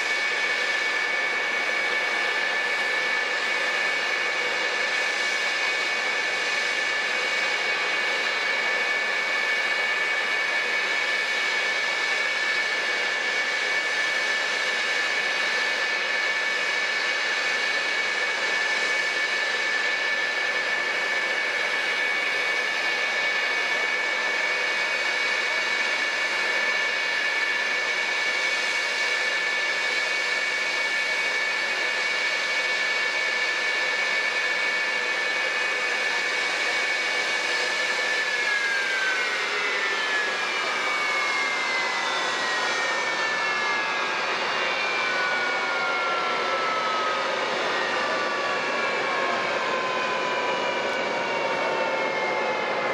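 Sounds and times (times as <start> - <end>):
jet engines idling whine: 0.0 - 52.9.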